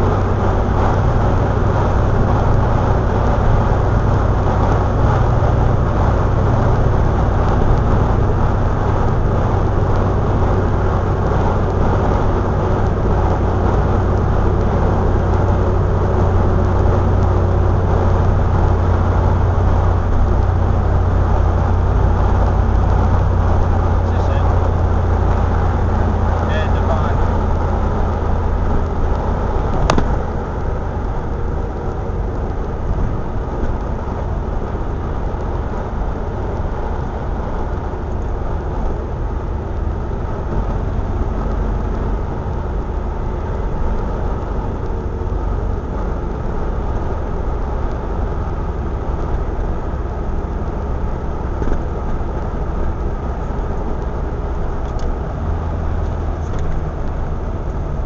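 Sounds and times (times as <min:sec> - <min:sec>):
car engine cruising: 0:00.0 - 0:58.0
road and wind noise: 0:00.0 - 0:58.0.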